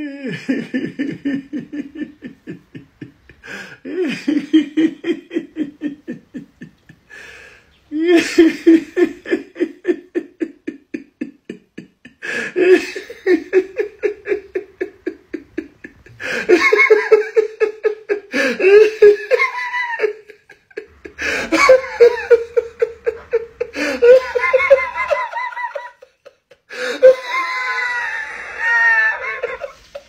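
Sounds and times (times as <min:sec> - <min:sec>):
woman laughing: 0:00.0 - 0:07.2, 0:07.9 - 0:30.0.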